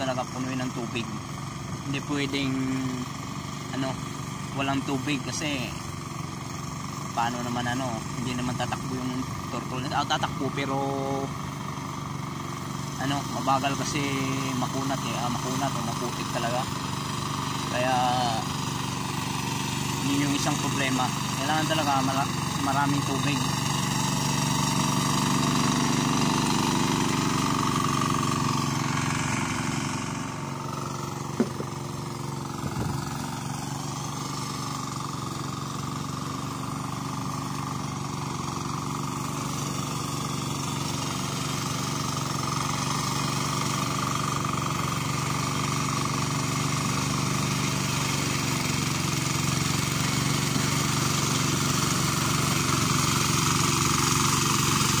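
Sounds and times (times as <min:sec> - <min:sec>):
diesel tiller engine running: 0:00.0 - 0:55.0.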